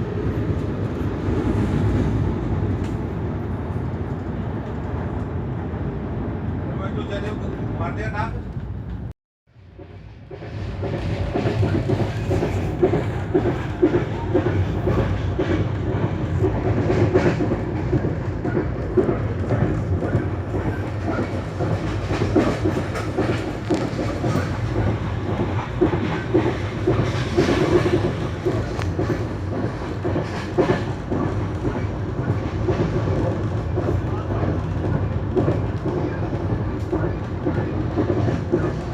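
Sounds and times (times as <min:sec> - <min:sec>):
train rumbling on board: 0:00.0 - 0:38.9.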